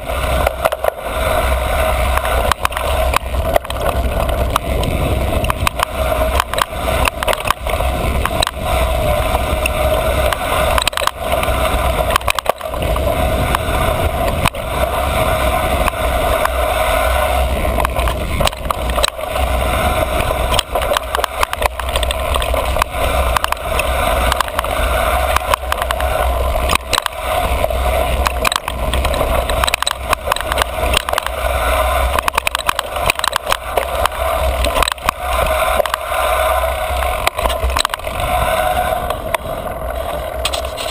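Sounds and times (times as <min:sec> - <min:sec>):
bike rattling over bumps: 0:00.0 - 0:40.9
bike tyre noise: 0:00.0 - 0:40.9
wind on microphone: 0:00.0 - 0:40.9.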